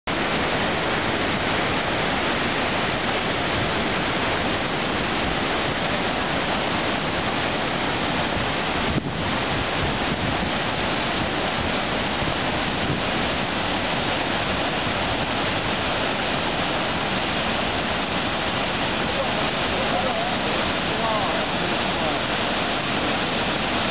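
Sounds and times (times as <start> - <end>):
waterfall rushing: 0.1 - 23.9.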